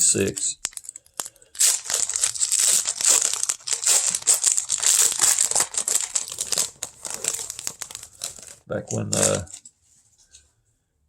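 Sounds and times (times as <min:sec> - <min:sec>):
card pack wrapper crinkling: 0:00.0 - 0:09.6.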